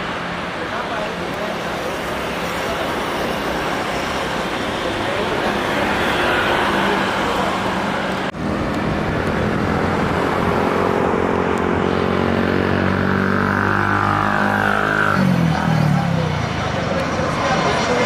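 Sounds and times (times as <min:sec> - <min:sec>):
loud engine with pitched tones: 0:00.0 - 0:18.0.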